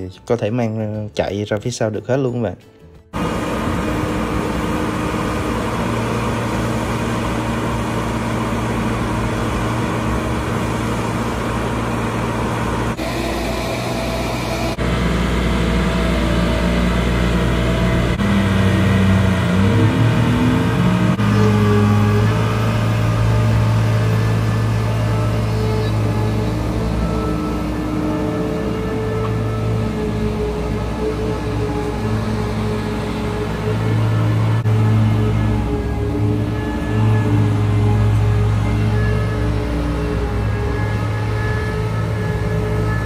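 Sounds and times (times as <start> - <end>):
diesel engine running and revving: 3.0 - 43.0.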